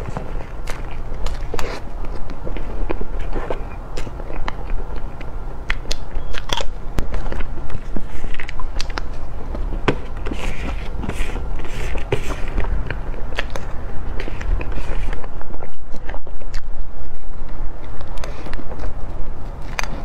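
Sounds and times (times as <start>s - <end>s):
wet mouth sounds chewing: 0.0s - 20.0s.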